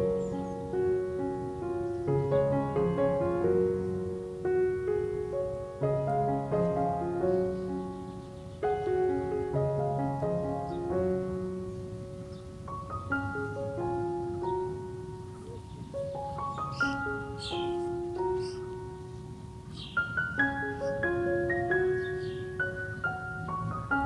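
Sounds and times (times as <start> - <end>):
soft slow piano music: 0.0 - 24.0.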